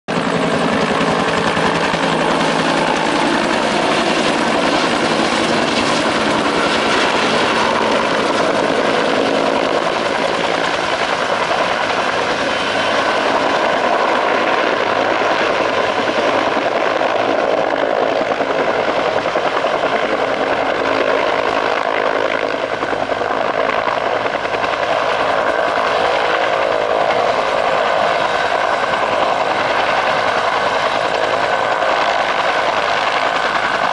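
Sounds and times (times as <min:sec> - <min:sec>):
helicopter rotor beating: 0:00.1 - 0:33.9
helicopter turbine whine: 0:00.1 - 0:33.9.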